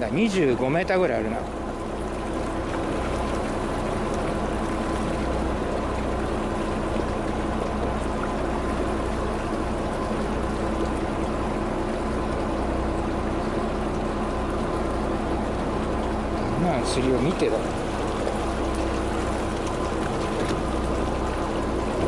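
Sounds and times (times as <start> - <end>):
boat engine humming: 0.0 - 22.0
water washing against hull: 0.0 - 22.0.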